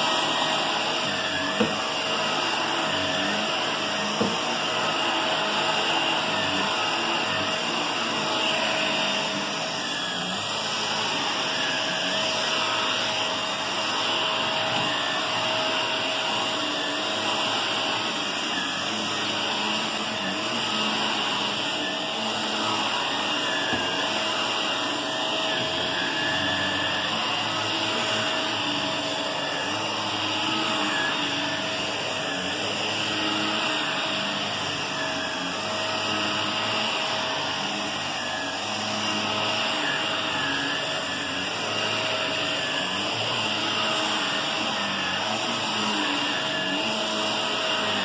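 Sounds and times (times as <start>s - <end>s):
vacuum cleaner on carpet: 0.0s - 48.0s.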